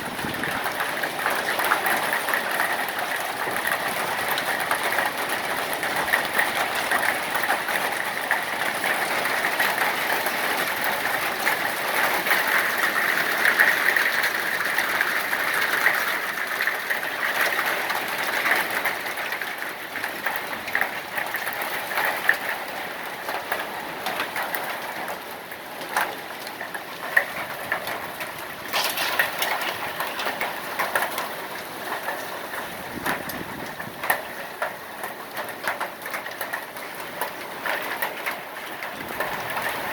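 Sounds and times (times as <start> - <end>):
hail pelting down: 0.0 - 39.9.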